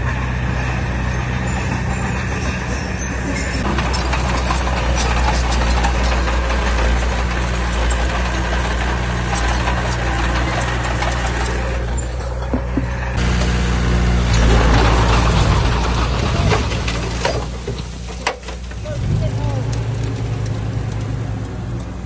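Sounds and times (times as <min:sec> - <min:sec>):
clattering and scraping: 0:00.0 - 0:21.1
heavy diesel engine running: 0:00.0 - 0:22.0.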